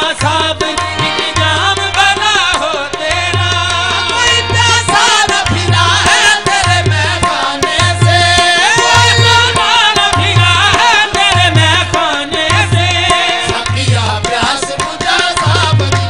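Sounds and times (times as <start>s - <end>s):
tabla rhythm: 0.0s - 16.0s.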